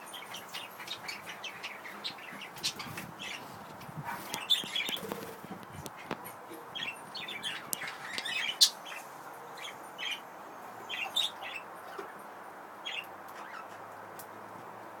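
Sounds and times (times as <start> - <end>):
budgerigars chirping: 0.0 - 3.6, 4.2 - 12.2, 12.8 - 13.8.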